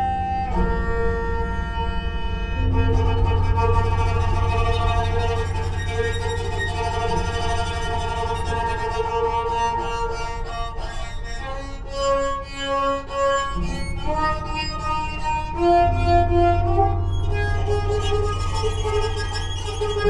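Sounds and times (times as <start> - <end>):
banjo played with a bow: 0.0 - 20.0
low steady hum: 0.0 - 20.0.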